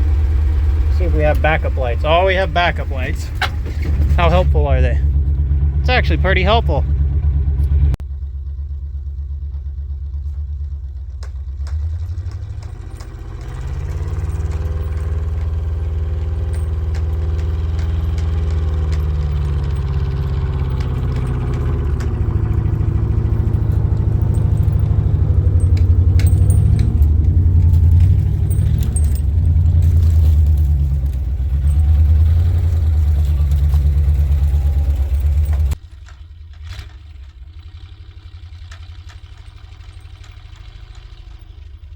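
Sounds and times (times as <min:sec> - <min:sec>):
loose parts rattling: 0:00.0 - 0:06.6, 0:10.1 - 0:41.9
truck engine running: 0:00.0 - 0:41.9.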